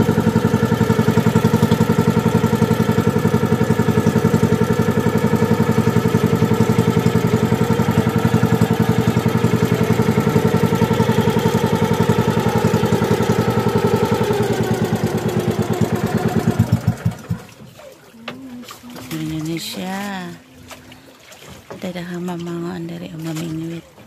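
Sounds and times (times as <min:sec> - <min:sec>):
small boat engine running: 0:00.0 - 0:24.0.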